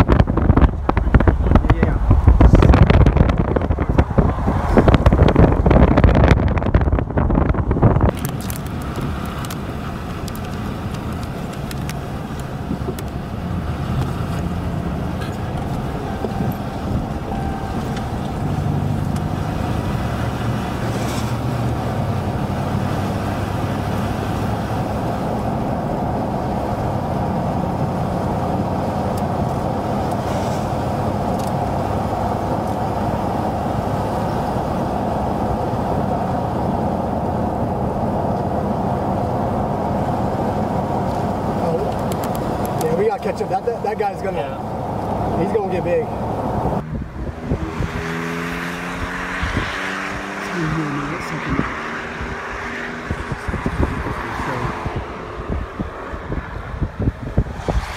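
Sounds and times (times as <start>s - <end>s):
car engine running: 0.0s - 57.8s.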